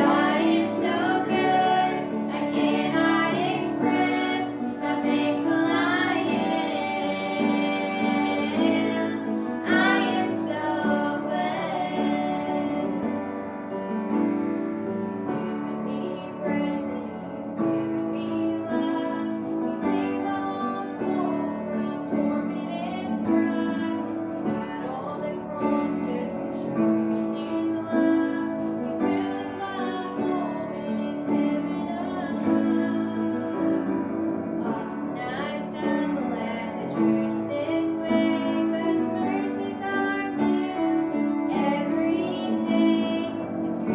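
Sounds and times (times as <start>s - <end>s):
women singing gospel song: 0.0s - 13.6s, 16.0s - 34.0s, 34.6s - 43.9s
piano accompaniment: 0.0s - 43.9s.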